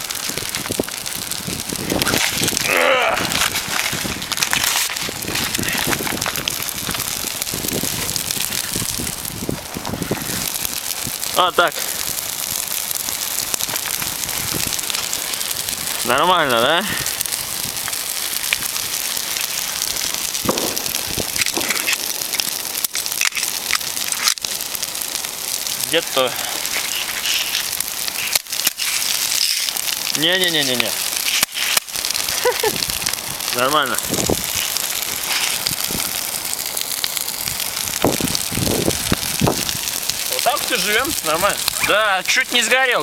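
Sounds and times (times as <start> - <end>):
fire crackling and hissing: 0.0 - 43.0.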